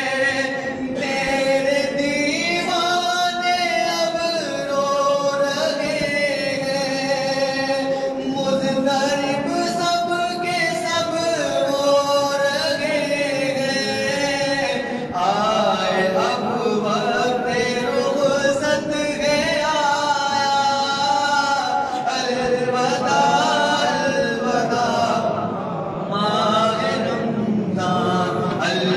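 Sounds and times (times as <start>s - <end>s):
man singing a devotional chant: 0.0s - 28.9s.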